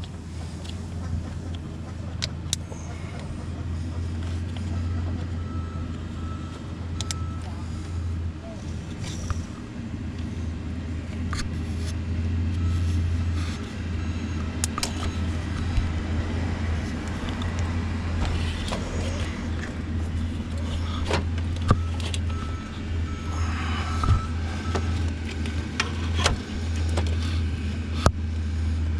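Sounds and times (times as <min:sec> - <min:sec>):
low rumble: 0:00.0 - 0:28.9.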